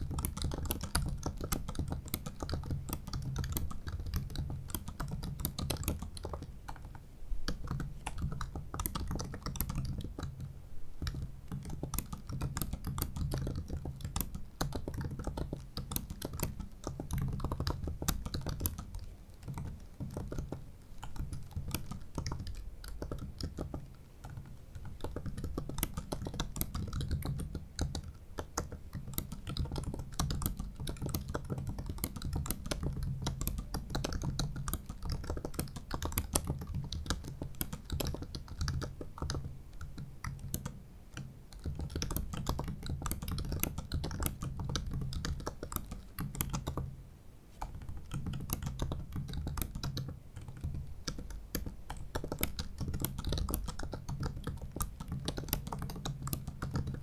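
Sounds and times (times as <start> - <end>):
laptop keyboard typing: 0.0 - 46.9, 47.6 - 57.0.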